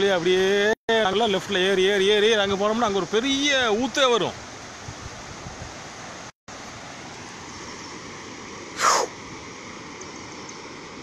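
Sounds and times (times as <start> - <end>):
floodwater rushing in river: 0.0 - 11.0.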